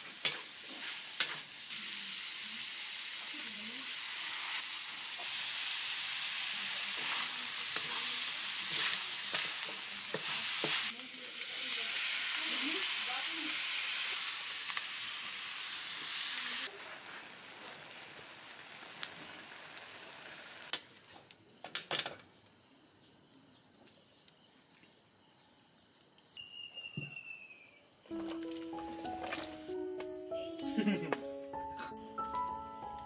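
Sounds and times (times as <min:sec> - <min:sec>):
food sizzling in a wok: 0:00.0 - 0:21.4, 0:26.4 - 0:33.0
crickets and insects chirping: 0:00.0 - 0:33.0.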